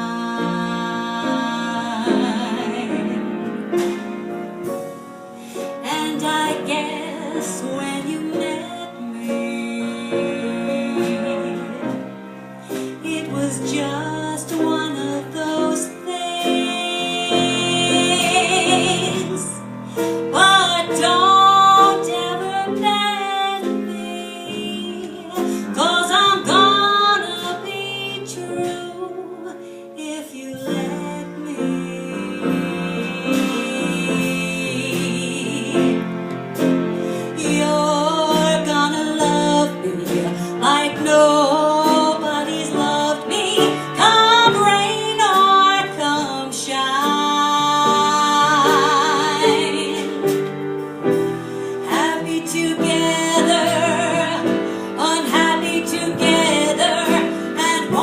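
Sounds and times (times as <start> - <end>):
instrumental accompaniment: 0.0 - 58.0
woman singing jazz: 0.0 - 58.0.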